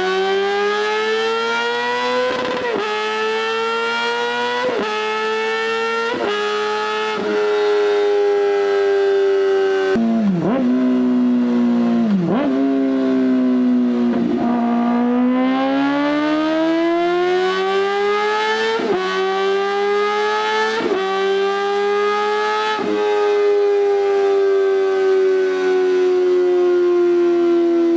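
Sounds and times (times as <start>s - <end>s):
motorcycle engine revving high: 0.0s - 27.9s.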